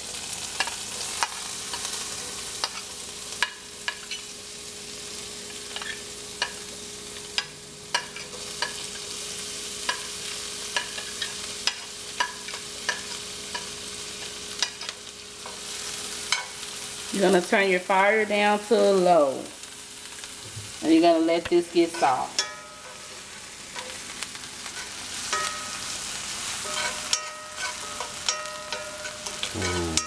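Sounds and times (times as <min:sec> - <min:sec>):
peppers sizzling in butter: 0:00.0 - 0:30.0.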